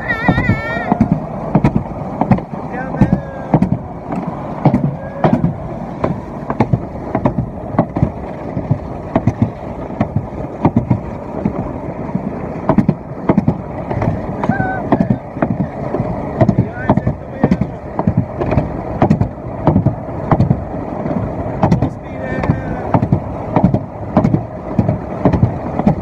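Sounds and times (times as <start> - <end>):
sharp clacks of coaster rail: 0.0 - 11.6, 12.6 - 26.0
sled wheels rolling rumble: 0.0 - 26.0.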